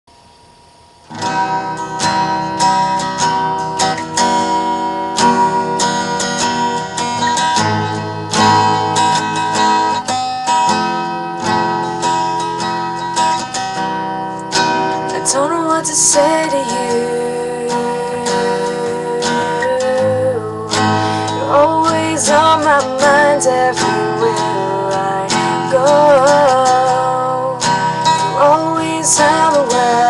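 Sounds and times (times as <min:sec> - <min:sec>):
acoustic guitar strumming chords: 0:01.0 - 0:30.0.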